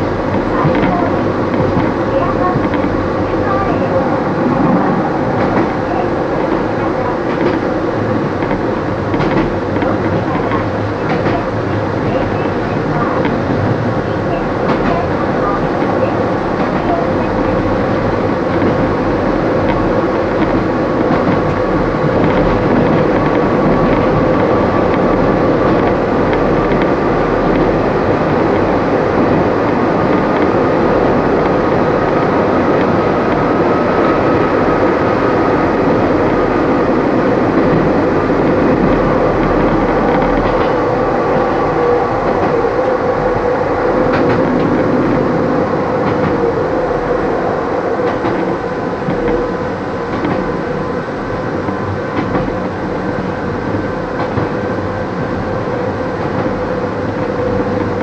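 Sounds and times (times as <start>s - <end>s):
electric train whine: 0.0s - 58.0s
rail joint clicks: 0.0s - 58.0s
train wheels rumbling on rail: 0.0s - 58.0s.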